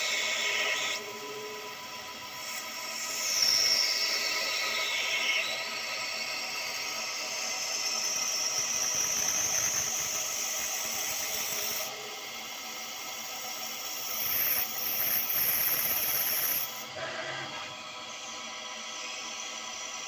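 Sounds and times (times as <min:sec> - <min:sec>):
lathe cutting with whining hiss: 0:00.0 - 0:20.0.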